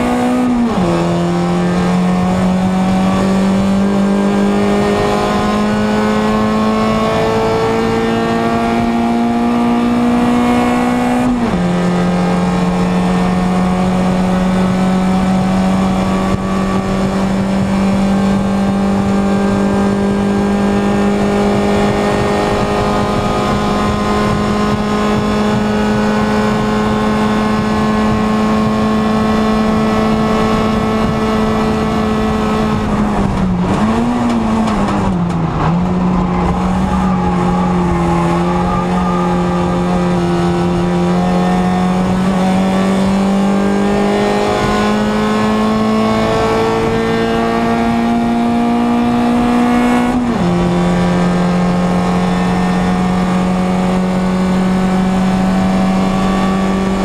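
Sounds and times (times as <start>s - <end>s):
racing car engine droning: 0.0s - 57.0s
gear change: 0.1s - 57.0s.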